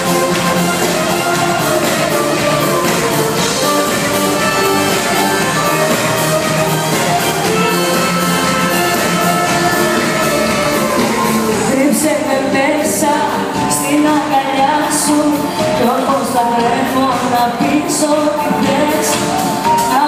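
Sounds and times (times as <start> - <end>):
live pop band playing: 0.0 - 20.0
woman singing: 1.0 - 20.0.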